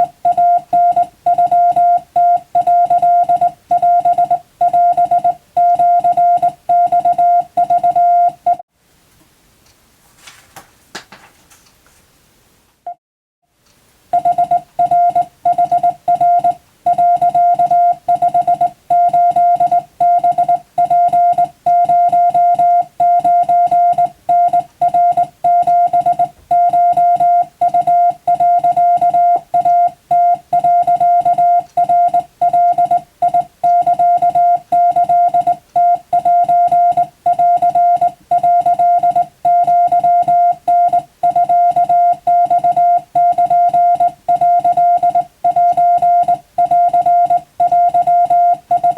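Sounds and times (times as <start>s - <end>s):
morse code tone: 0.0s - 8.6s, 14.2s - 48.9s.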